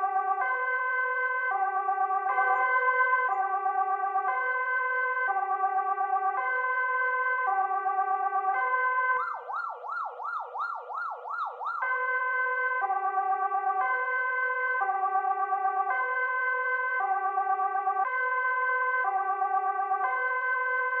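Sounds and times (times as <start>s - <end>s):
police siren: 0.0s - 21.0s.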